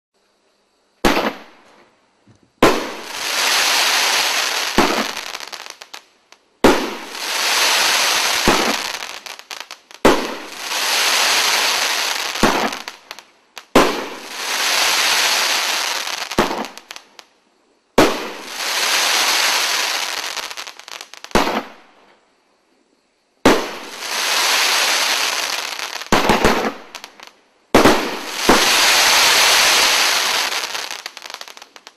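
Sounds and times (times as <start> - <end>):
firework bangs: 1.0 - 1.8, 2.6 - 6.0, 6.6 - 17.2, 18.0 - 22.0, 23.4 - 31.9
firework crackling: 2.6 - 17.3, 18.0 - 21.9, 23.4 - 31.9.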